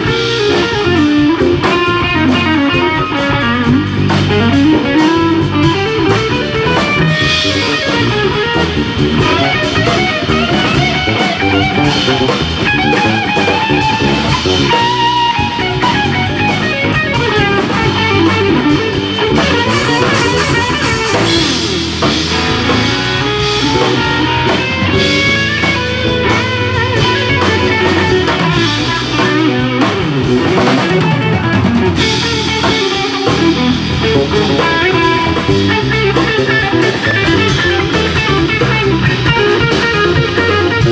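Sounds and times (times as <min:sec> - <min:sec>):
electric guitar: 0:00.0 - 0:40.9
jazz band playing: 0:00.0 - 0:40.9.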